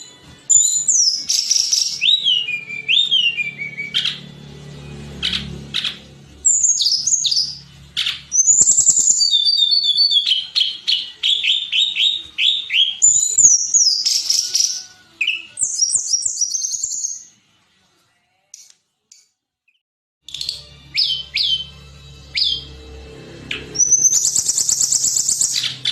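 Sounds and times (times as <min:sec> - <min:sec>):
songbird singing: 0:00.0 - 0:17.3, 0:18.6 - 0:22.9, 0:23.5 - 0:25.9.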